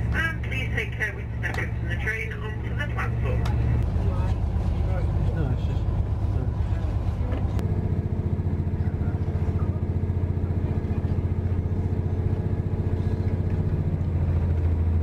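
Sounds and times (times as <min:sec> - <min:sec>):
diesel train engine throbbing: 0:00.0 - 0:15.0.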